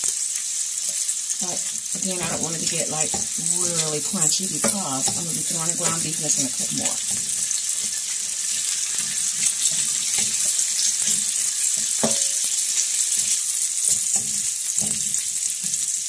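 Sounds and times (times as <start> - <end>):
bacon sizzling in a frying pan: 0.0 - 16.0.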